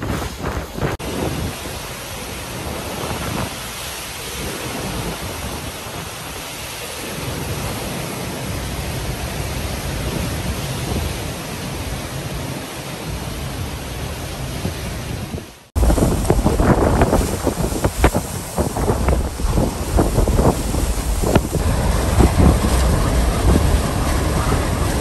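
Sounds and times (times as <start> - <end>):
strong wind gusts: 0.0 - 25.0
wind buffeting the microphone: 0.0 - 25.0.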